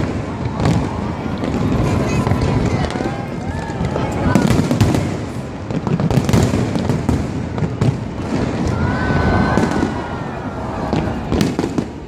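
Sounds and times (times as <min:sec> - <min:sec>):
fireworks bangs and crackles: 0:00.0 - 0:12.0
fireworks booming: 0:00.0 - 0:12.0.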